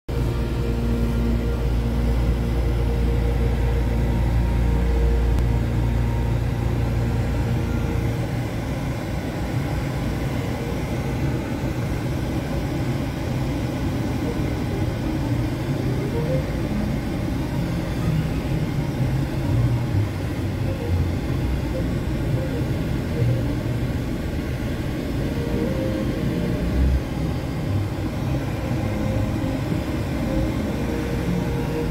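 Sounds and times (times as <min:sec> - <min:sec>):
car engine running inside cabin: 0:00.1 - 0:31.9.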